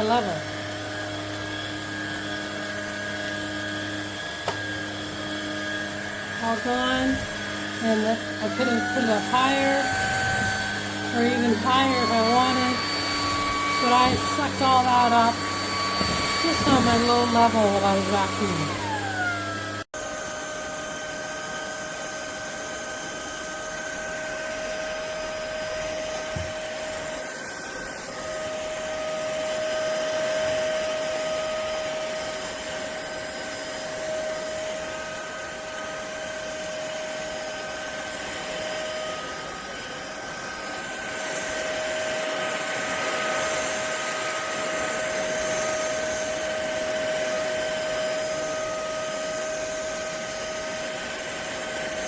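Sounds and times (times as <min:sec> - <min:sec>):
stick vacuum cleaner running: 0:00.0 - 0:52.0.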